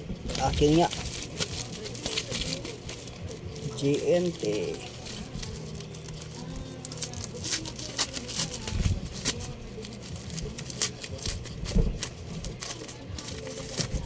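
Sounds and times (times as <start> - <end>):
plastic packaging crackling: 0.0 - 14.0.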